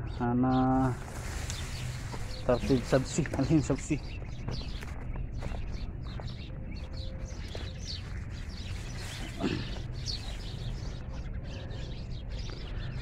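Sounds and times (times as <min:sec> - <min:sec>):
small birds chirping: 0:00.0 - 0:13.0
steady low rumble: 0:00.8 - 0:13.0.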